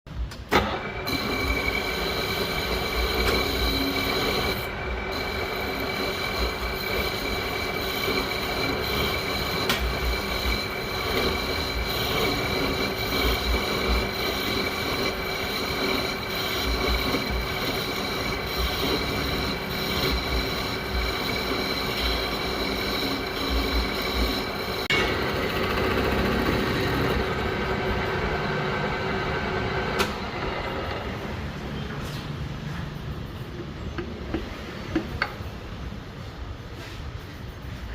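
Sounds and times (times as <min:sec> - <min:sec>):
metal lathe cutting steel: 0:00.6 - 0:31.7.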